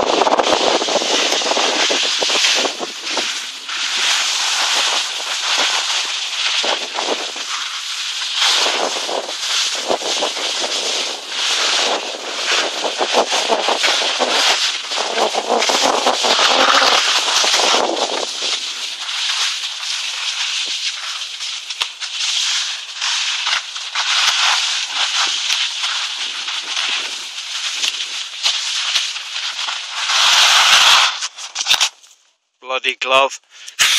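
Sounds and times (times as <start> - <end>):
skis scraping over packed snow: 0.0 - 32.0.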